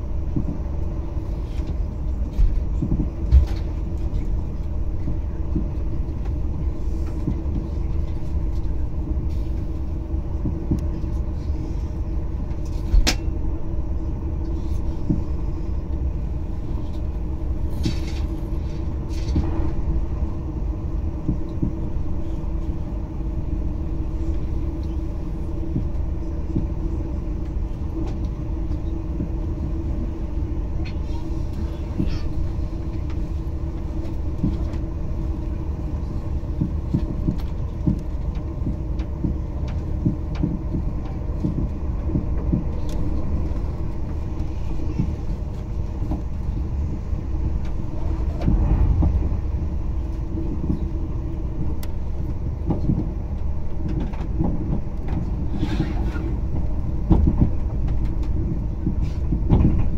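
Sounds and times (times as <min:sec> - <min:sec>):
constant hum: 0:00.0 - 0:59.9
train running gear rumble: 0:00.0 - 0:59.9.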